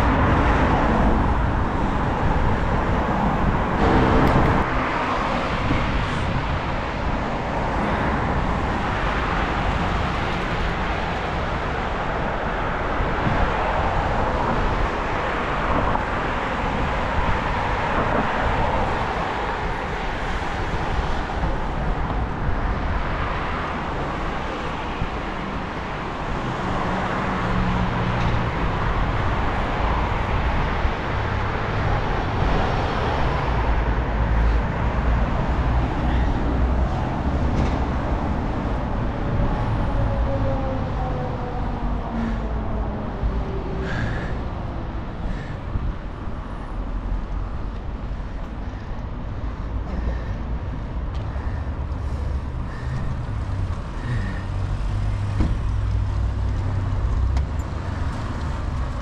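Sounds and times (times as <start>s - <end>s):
cars and tyres whooshing past: 0.0s - 59.0s
low traffic rumble: 0.0s - 59.0s.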